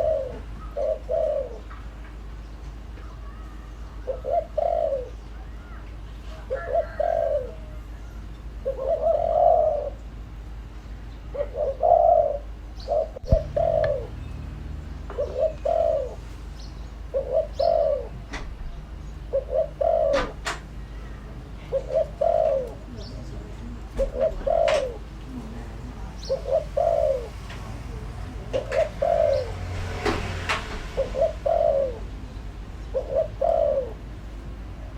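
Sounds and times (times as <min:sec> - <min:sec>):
dove cooing: 0:00.0 - 0:01.9, 0:03.1 - 0:10.2, 0:11.3 - 0:34.2.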